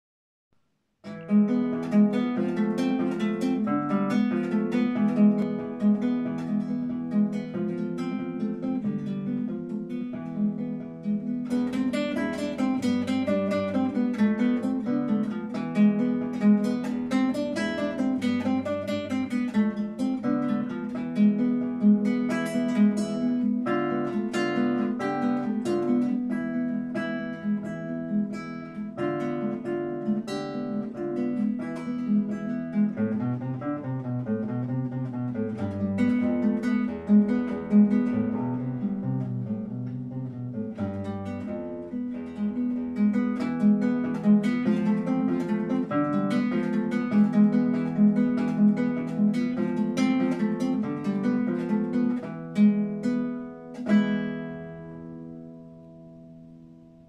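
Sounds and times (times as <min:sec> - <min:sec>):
acoustic guitar: 0:00.6 - 0:57.0.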